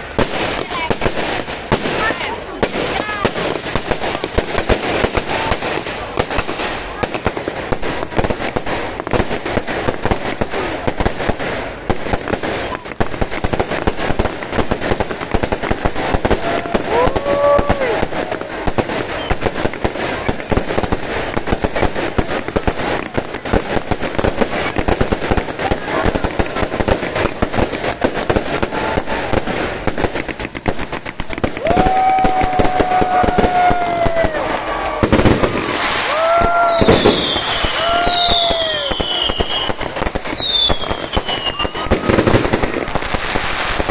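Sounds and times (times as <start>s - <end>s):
fireworks crackling and banging: 0.0s - 43.9s.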